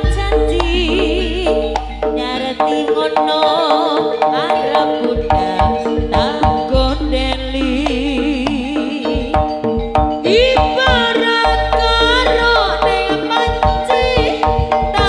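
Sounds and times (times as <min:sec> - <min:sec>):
hand drums beating: 0:00.0 - 0:15.0
wavering melodic line: 0:00.0 - 0:15.0.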